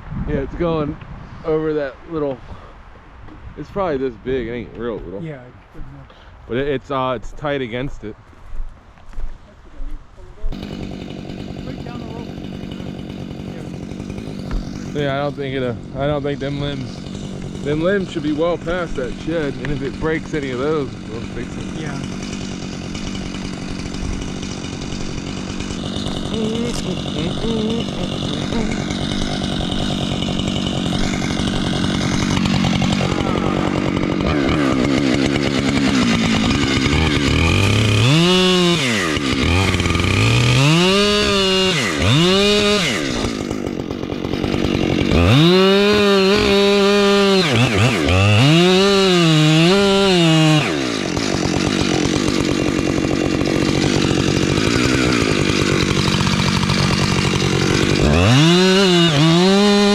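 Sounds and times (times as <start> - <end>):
chainsaw revving: 10.5 - 59.9.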